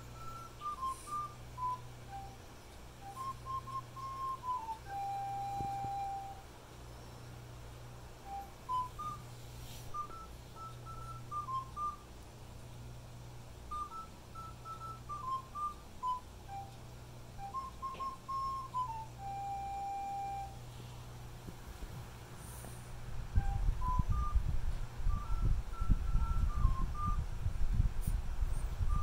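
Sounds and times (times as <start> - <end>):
person whistling a slow tune: 0.0 - 7.4, 8.2 - 12.1, 13.7 - 20.7, 23.3 - 27.3, 28.0 - 29.0
steady low hum: 0.0 - 29.0.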